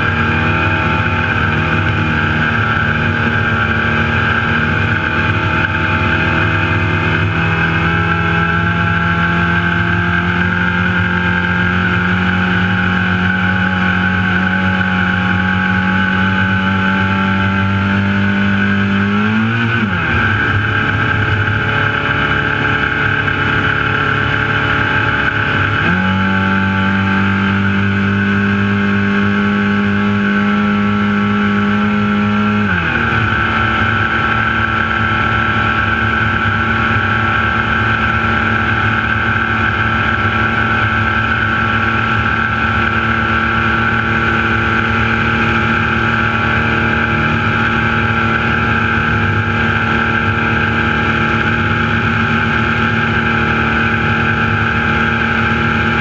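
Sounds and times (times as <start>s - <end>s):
road and wind rumble: 0.0s - 56.0s
truck engine running hard: 0.0s - 56.0s.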